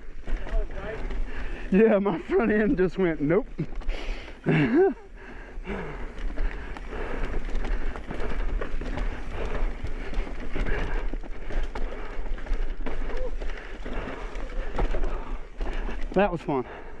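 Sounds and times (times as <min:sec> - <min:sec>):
bike rattling and knocking: 0:00.0 - 0:17.0
bike tyres on dirt: 0:00.0 - 0:17.0.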